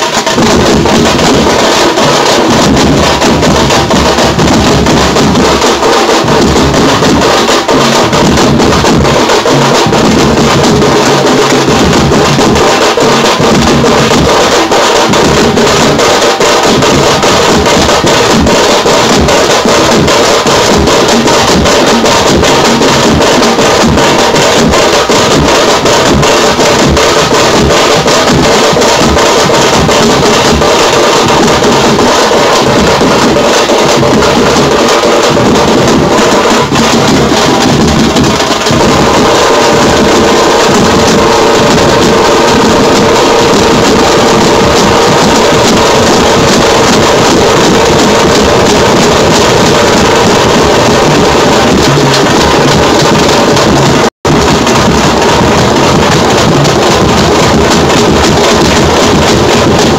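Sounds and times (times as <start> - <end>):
drum band playing fast: 0.0 - 59.9.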